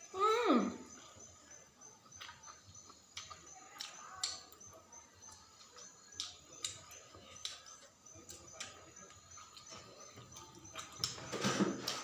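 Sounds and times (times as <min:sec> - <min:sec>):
faint high pulsing chirp: 0:00.0 - 0:11.5
people chewing: 0:00.9 - 0:12.0.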